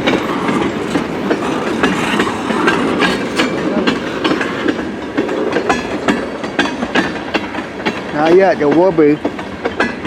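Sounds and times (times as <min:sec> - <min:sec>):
freight train rumble: 0:00.0 - 0:10.0
train wheels clacking over rail joints: 0:00.0 - 0:10.0.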